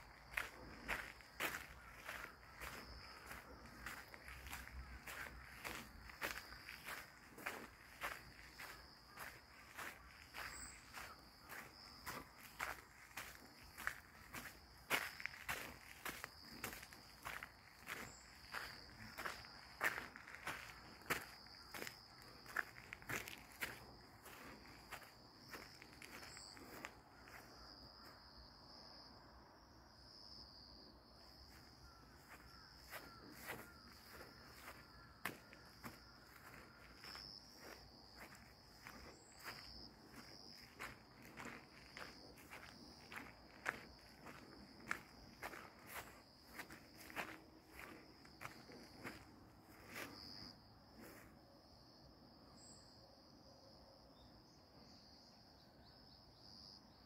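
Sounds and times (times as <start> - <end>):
soft footsteps on dirt path: 0.0 - 29.1, 30.2 - 52.0.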